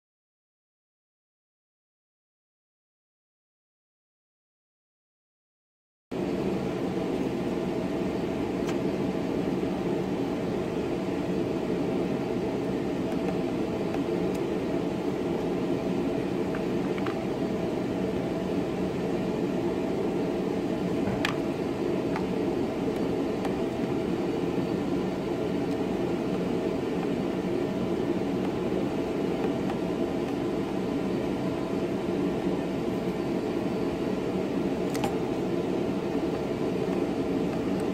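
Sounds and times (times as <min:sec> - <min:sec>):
fan whirring: 0:06.1 - 0:37.9.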